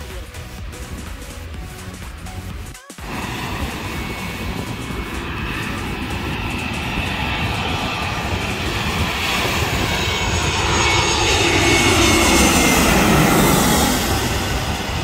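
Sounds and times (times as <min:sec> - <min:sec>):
airliner jet engines roaring overhead: 0:00.0 - 0:15.0.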